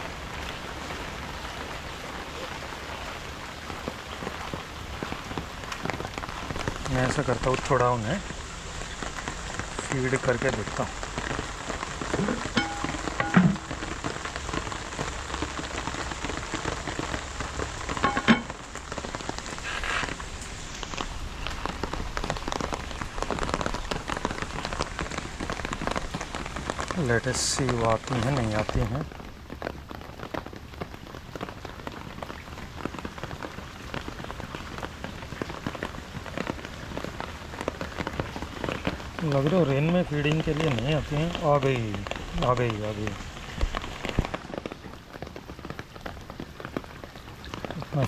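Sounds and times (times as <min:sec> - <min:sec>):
rain pattering: 0:00.0 - 0:48.0.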